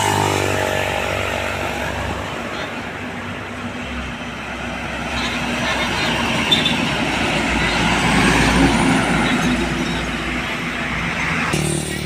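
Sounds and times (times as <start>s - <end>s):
heavy truck driving past: 0.0s - 12.0s.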